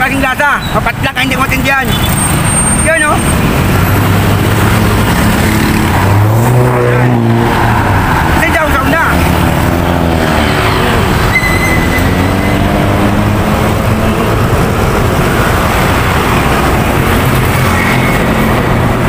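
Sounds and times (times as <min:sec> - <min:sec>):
motorbikes passing: 0:00.0 - 0:19.0
trucks passing: 0:00.0 - 0:19.0.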